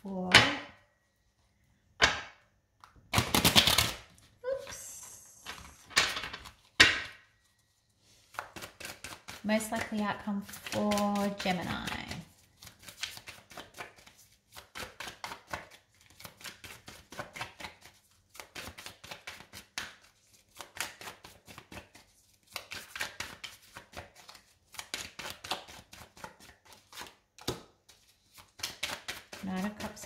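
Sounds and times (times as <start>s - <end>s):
cards shuffling: 2.8s - 7.2s, 8.2s - 30.0s.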